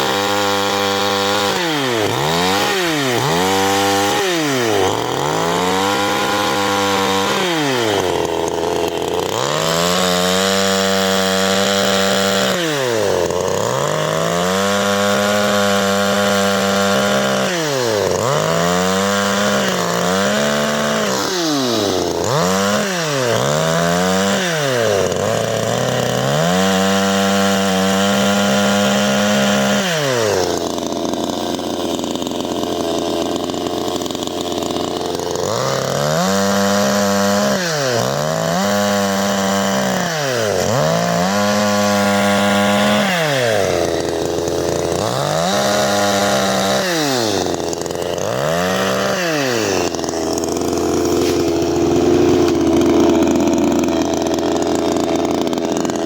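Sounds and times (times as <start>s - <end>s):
chainsaw engine revving: 0.0s - 56.0s.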